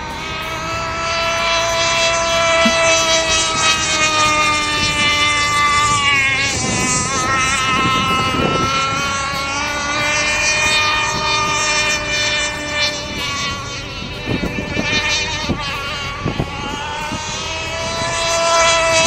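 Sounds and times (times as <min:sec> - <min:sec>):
toy speedboat motor whine: 0:00.0 - 0:19.0.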